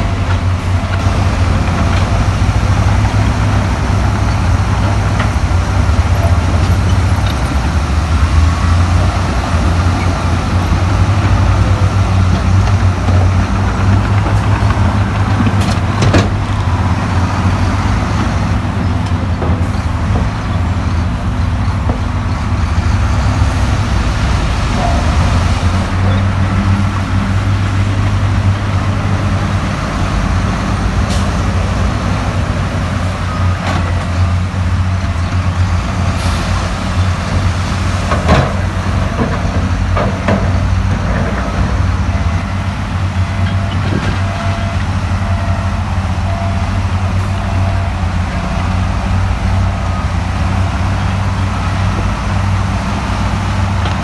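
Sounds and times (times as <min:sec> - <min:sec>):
diesel machinery engine rumble: 0:00.0 - 0:54.0.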